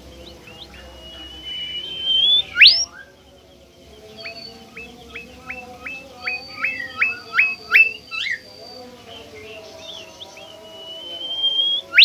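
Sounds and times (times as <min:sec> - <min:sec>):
songbird whistling: 0:00.0 - 0:12.0
thin steady high tone: 0:00.0 - 0:12.0.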